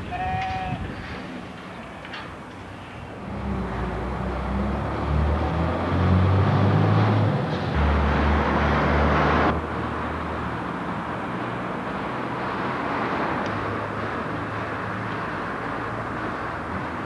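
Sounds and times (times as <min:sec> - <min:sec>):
diesel lorry engine revving: 0:03.2 - 0:17.0.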